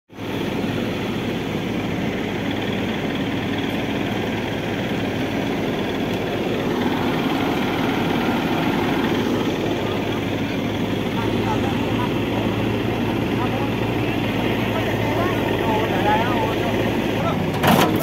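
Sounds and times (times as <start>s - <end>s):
diesel engine idling: 0.1s - 18.0s.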